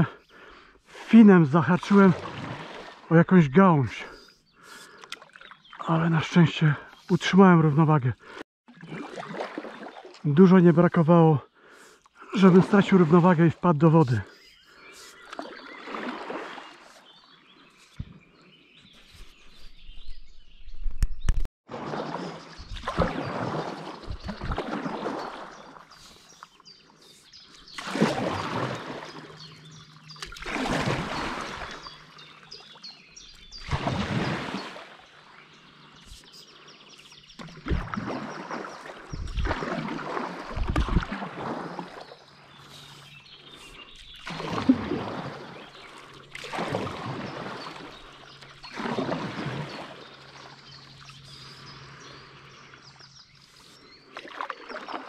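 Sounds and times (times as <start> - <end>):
paddle splashing through water: 0.4 - 3.2, 4.0 - 10.9, 11.8 - 18.3, 21.6 - 55.0.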